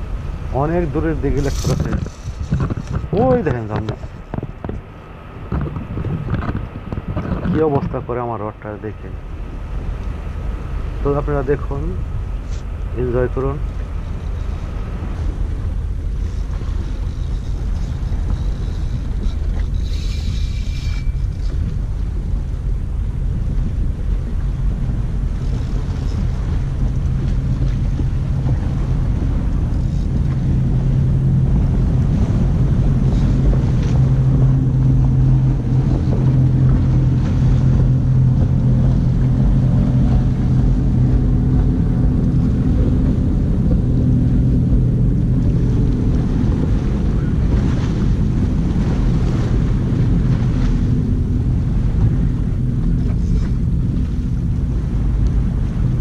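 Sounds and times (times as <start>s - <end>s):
low engine drone: 0.0s - 56.0s
wind rumbling on microphone: 0.0s - 56.0s.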